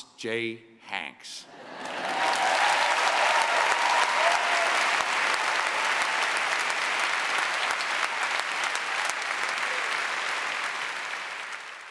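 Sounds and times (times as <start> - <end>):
large audience applauding: 1.5 - 11.9.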